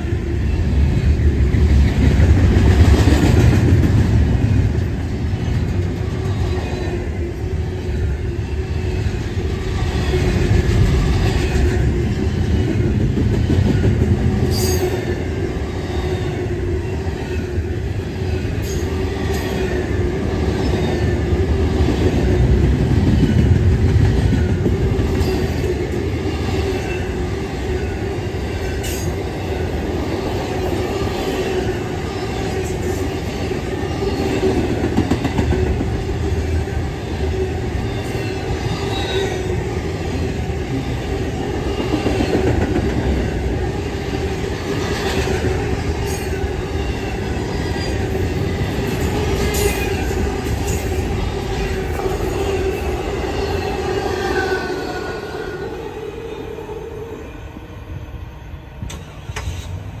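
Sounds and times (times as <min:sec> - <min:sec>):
train wheels rumbling on rail: 0:00.0 - 1:00.0.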